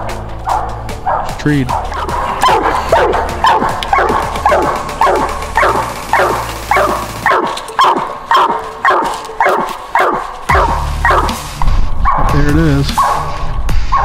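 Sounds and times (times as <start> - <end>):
dog barking: 0.4 - 14.0.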